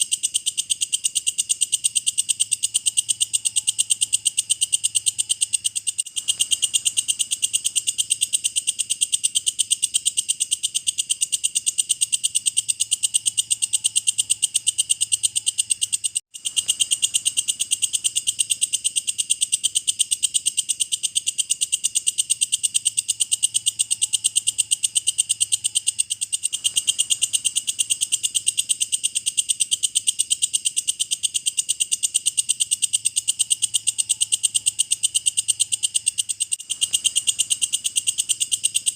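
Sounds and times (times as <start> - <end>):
bush-cricket chirping: 0.0 - 38.9.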